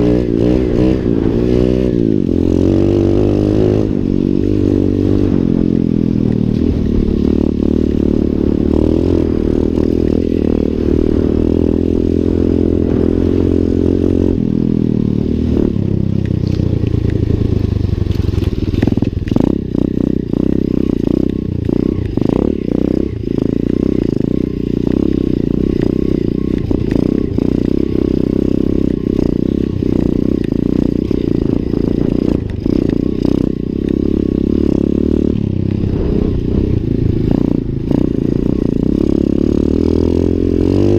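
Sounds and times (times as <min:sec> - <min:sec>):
pit bike engine running: 0:00.0 - 0:40.9.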